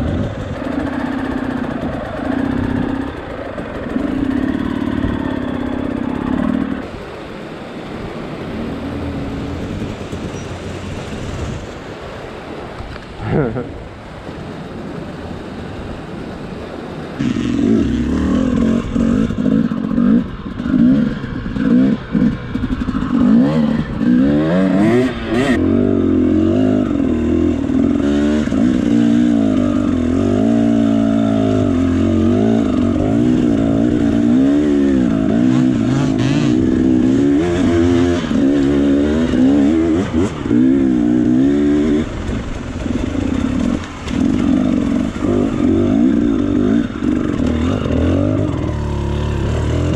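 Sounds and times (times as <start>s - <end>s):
motorcycle engine revving: 0.0s - 11.5s, 16.6s - 49.9s.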